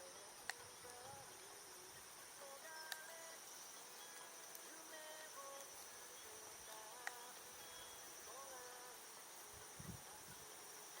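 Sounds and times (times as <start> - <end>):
fire crackle: 0.0 - 11.0
high insect trilling: 0.0 - 11.0.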